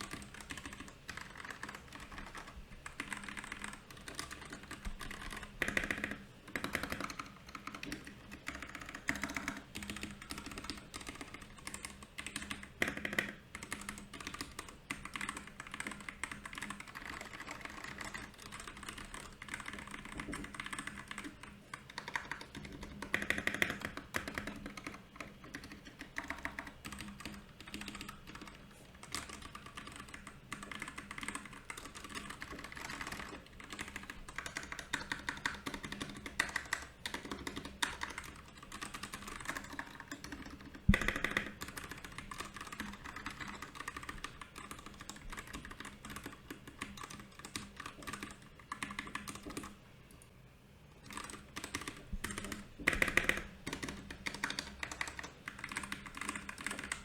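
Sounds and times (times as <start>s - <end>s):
mechanical keyboard typing: 0.0s - 49.8s, 51.0s - 57.0s.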